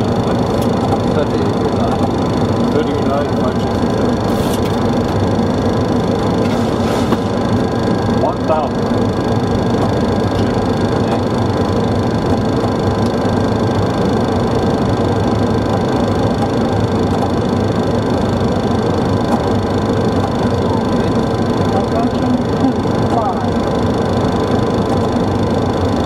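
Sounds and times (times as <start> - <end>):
jet engines and airflow rush: 0.0 - 26.0.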